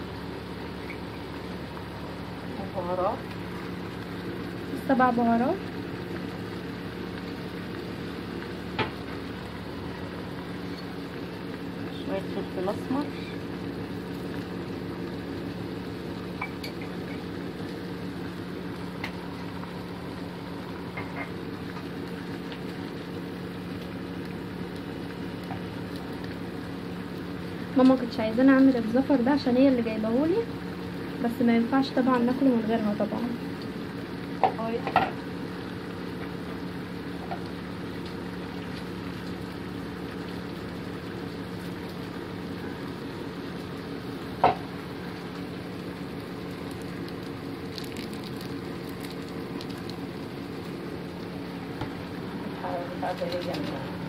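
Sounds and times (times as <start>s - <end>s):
pot of meat cooking on gas stove: 0.0s - 54.0s
steady low hum: 0.0s - 54.0s.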